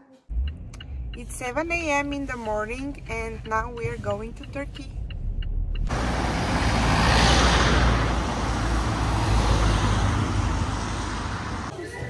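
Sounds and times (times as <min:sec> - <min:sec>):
road traffic rumble: 0:00.3 - 0:11.8.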